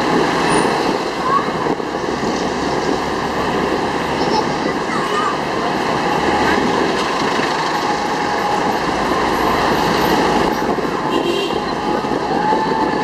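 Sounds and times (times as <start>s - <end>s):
street noise: 0.0s - 13.0s
vehicle engine and road noise: 0.0s - 13.0s.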